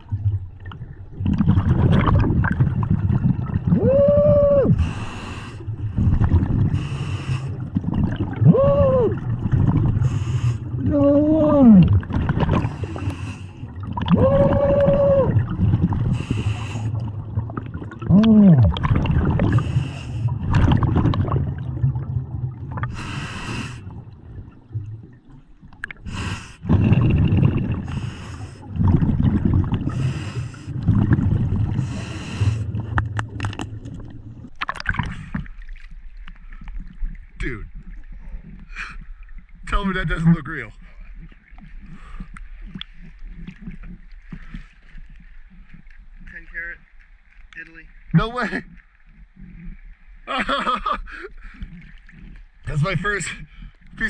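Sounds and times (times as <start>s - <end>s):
exhaled bubbles gurgling: 0.0s - 47.0s.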